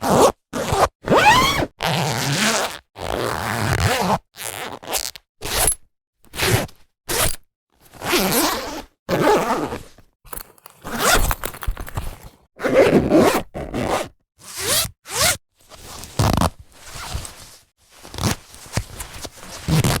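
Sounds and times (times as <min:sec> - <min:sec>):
zipper pulled open and shut: 0:00.0 - 0:20.0.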